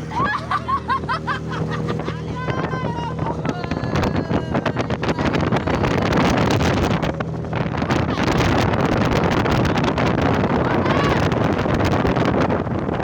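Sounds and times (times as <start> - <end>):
steady low drone: 0.0 - 13.0
wind buffeting microphone: 0.0 - 13.0.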